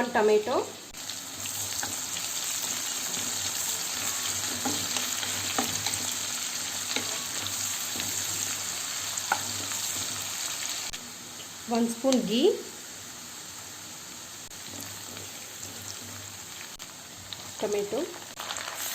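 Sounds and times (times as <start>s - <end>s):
onion frying in hot oil: 0.0s - 18.9s.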